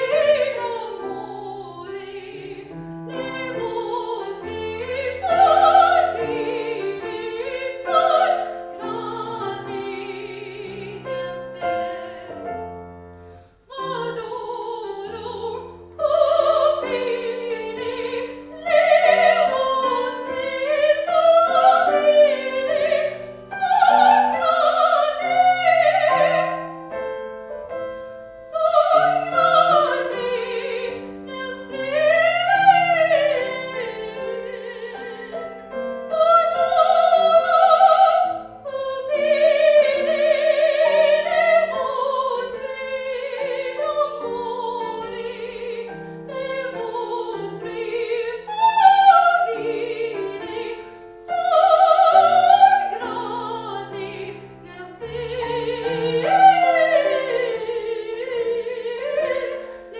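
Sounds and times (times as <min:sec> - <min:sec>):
operatic singing: 0:00.0 - 0:12.8, 0:13.5 - 0:27.0, 0:28.2 - 0:59.9
piano accompaniment: 0:00.0 - 0:59.9.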